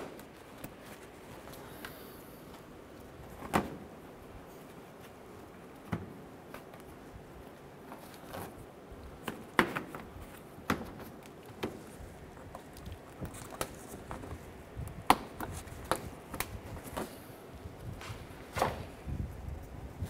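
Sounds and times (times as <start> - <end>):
handling rustle: 0.0 - 20.0.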